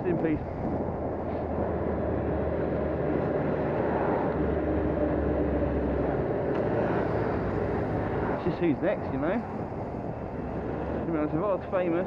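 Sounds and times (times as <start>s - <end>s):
road noise: 0.0s - 12.0s
wind noise: 0.0s - 12.0s.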